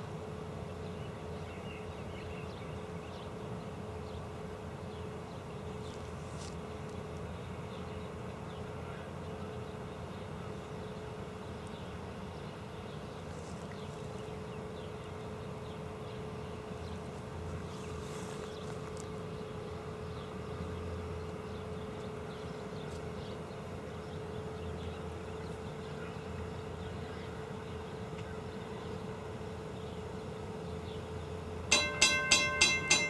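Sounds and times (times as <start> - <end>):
distant steam locomotive rumble: 0.0 - 33.0
steady high hum: 0.0 - 33.0.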